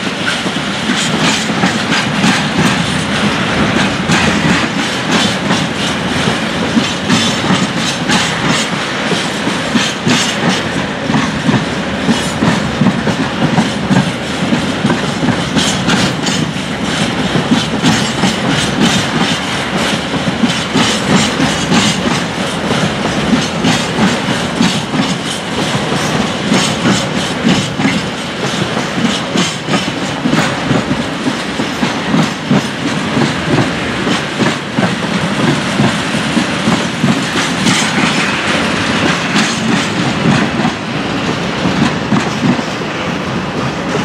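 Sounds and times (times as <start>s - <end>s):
freight train rumbling: 0.0s - 44.0s
train wheels clattering over rail joints: 0.0s - 44.0s.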